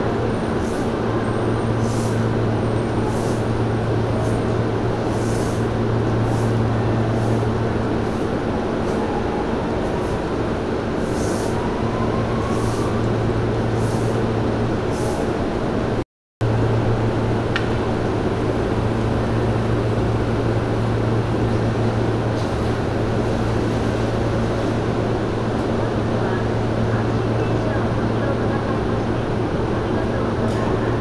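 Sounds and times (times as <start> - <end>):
electric train hum and rumble: 0.0 - 31.0.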